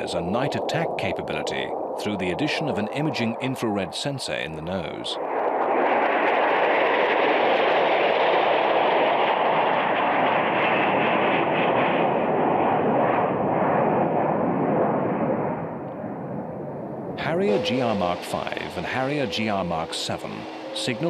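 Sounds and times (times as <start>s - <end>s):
jet engine roar flying past: 0.0s - 21.0s.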